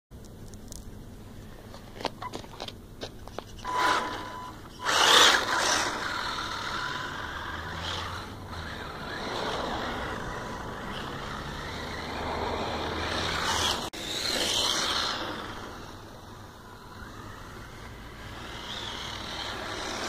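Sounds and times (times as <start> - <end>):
toy car motor and tyres hissing: 3.4 - 20.0.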